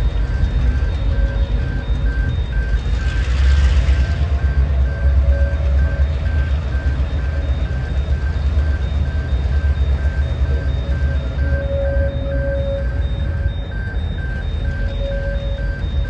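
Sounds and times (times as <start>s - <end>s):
heavy low rumble: 0.0s - 16.0s
rapid electronic beeps: 0.0s - 16.0s.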